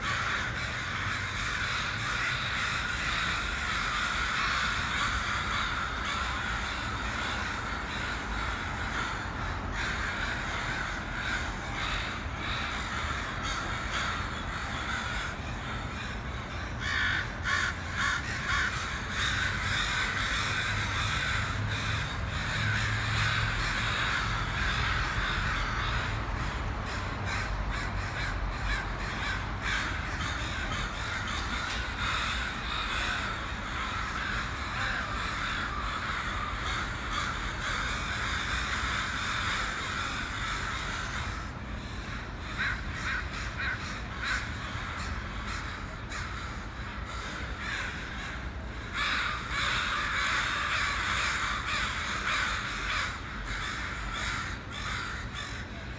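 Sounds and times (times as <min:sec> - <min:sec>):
flock of crows cawing: 0:00.0 - 0:55.9.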